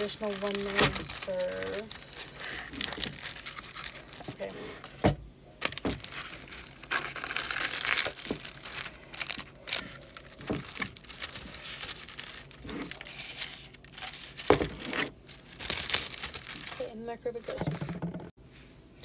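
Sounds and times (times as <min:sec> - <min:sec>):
plastic wrapping crinkling: 0:00.0 - 0:04.5, 0:05.6 - 0:17.6.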